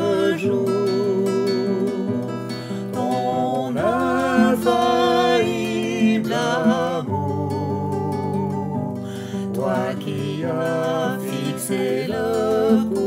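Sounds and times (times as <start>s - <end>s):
acoustic guitar: 0.0s - 13.0s
person singing with vibrato: 0.0s - 13.0s.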